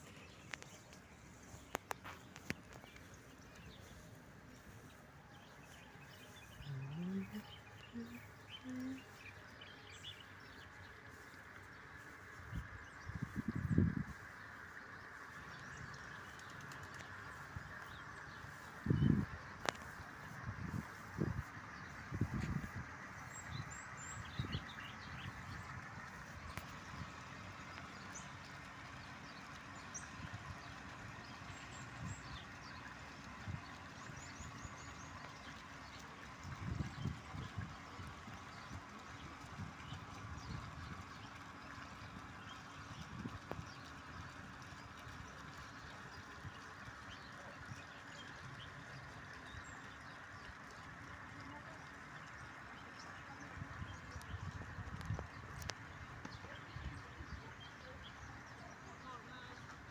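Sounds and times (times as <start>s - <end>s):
small birds chirping faintly: 0.0s - 59.9s
steady outdoor hiss: 0.0s - 59.9s.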